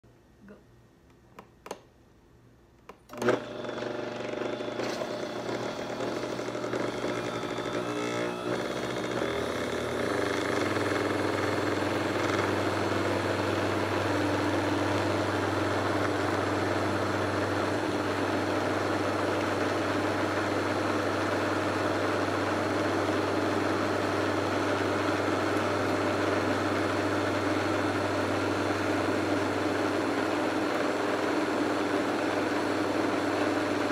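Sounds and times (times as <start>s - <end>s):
blender motor running: 3.1s - 33.9s.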